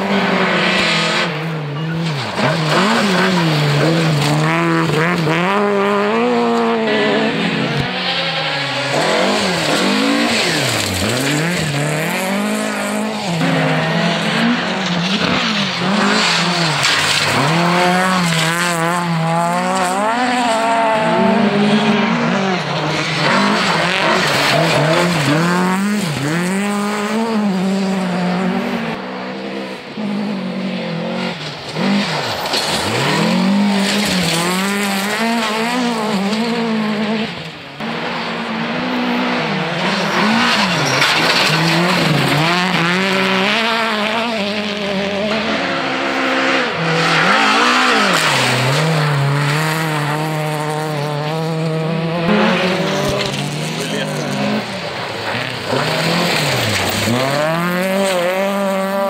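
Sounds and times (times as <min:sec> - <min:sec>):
rally car engines revving: 0:00.0 - 0:59.0
cars sliding on gravel: 0:00.2 - 0:29.0, 0:29.6 - 0:38.4, 0:39.1 - 0:59.0.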